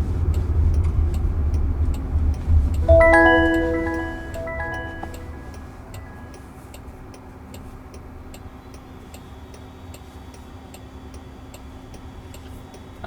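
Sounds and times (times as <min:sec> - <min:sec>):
turn signal ticking: 0:00.0 - 0:02.9, 0:04.4 - 0:13.0.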